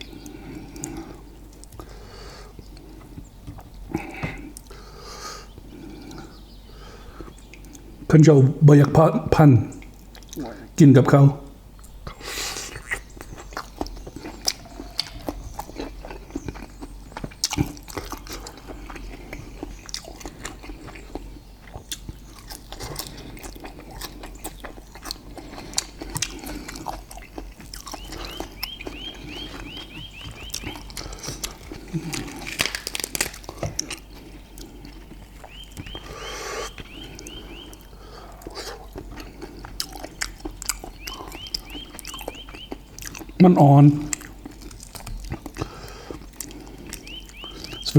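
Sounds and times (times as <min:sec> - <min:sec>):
close-miked chewing: 0:00.0 - 0:08.1, 0:09.8 - 0:10.8, 0:11.7 - 0:47.9.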